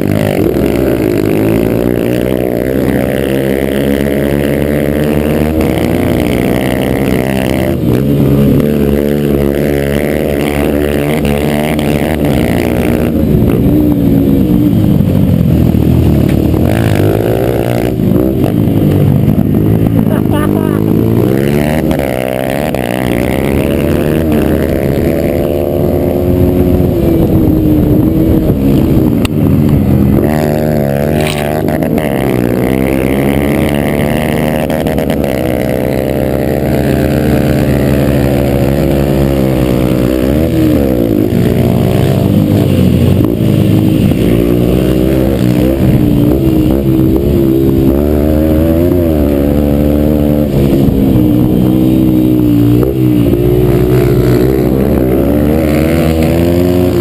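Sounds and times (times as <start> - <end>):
dirt bike engine revving hard: 0.0 - 57.0.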